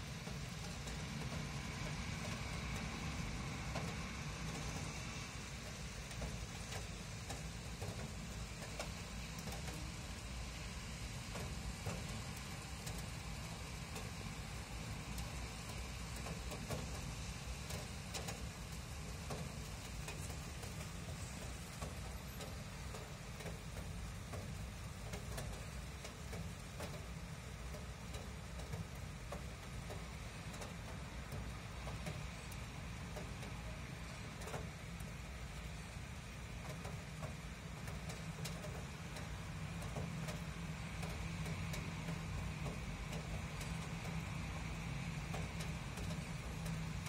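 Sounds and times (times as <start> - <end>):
light rain falling: 0.0 - 47.0
raindrops ticking: 0.0 - 47.0.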